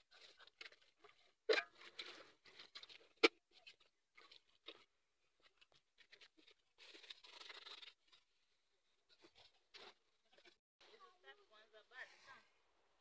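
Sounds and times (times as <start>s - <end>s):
scrubbing pots by hand: 0.0s - 10.5s.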